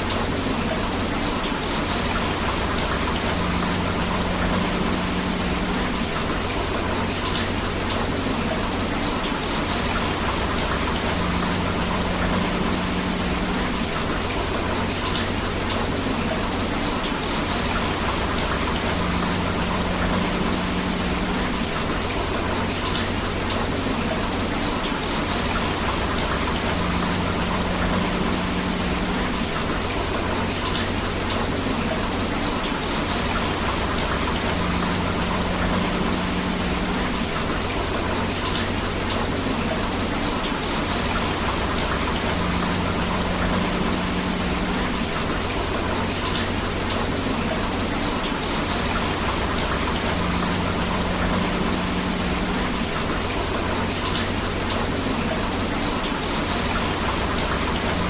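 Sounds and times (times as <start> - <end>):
rushing river water: 0.0 - 58.0
steady rain: 0.0 - 58.0.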